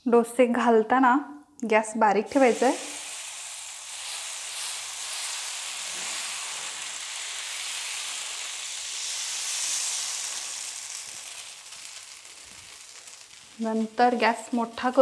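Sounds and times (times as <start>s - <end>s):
batter sizzling on hot griddle: 2.3s - 15.0s.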